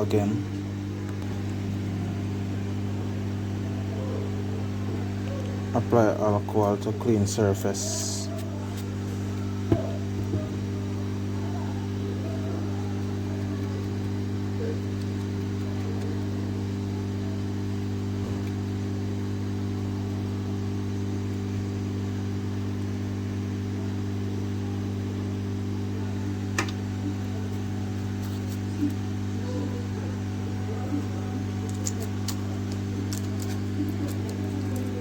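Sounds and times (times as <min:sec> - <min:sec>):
machine electrical hum: 0:00.0 - 0:35.0.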